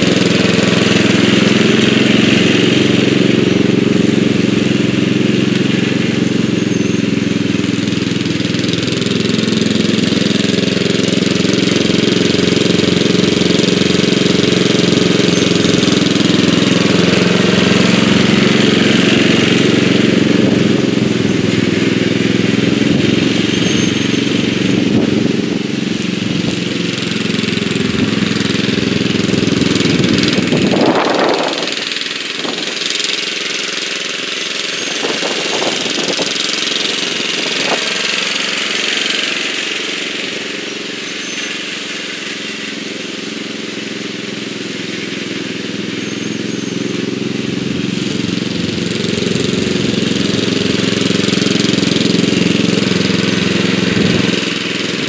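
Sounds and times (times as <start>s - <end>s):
lawn tractor engine mowing: 0.0s - 55.0s.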